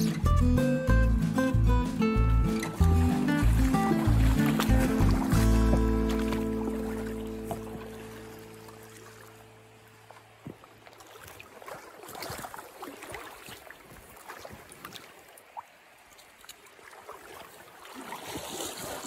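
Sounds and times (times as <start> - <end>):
river water lapping: 0.0 - 19.0
fish splashing: 2.5 - 15.7, 16.3 - 19.0.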